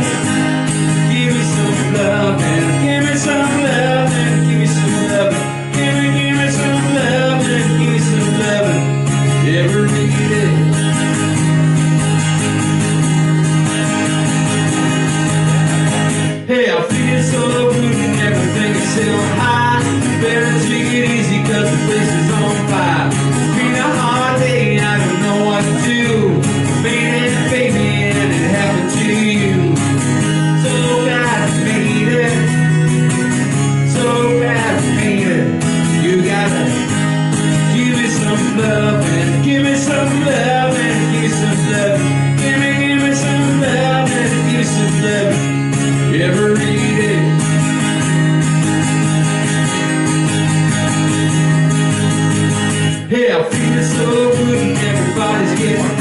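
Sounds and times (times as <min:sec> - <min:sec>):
man singing: 0:00.0 - 0:11.7, 0:15.7 - 0:48.2, 0:52.7 - 0:56.0
acoustic guitar strumming: 0:00.0 - 0:56.0.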